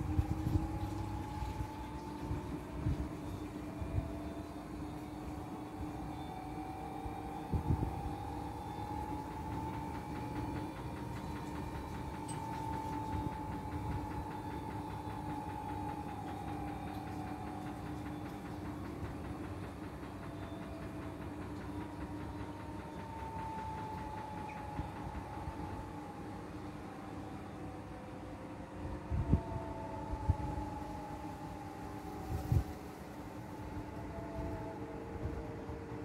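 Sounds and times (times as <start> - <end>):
washing machine motor hum: 0.0 - 36.0.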